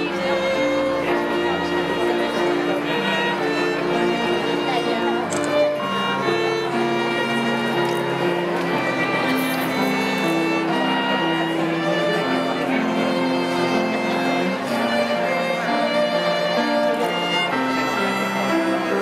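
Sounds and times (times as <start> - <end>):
bowed strings playing: 0.0 - 19.0.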